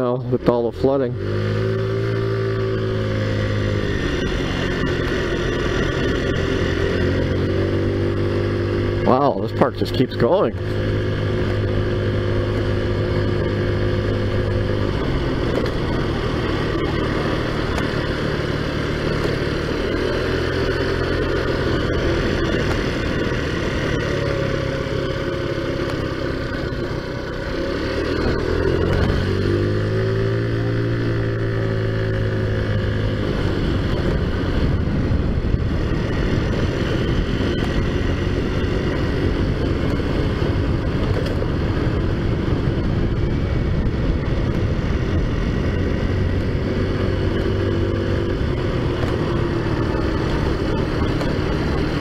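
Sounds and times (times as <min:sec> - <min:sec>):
scooter engine drone: 0:00.0 - 0:52.0.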